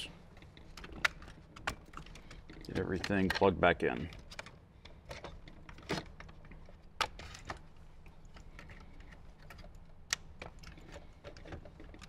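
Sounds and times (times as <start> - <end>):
plastic clicks and rattles: 0.4 - 12.0.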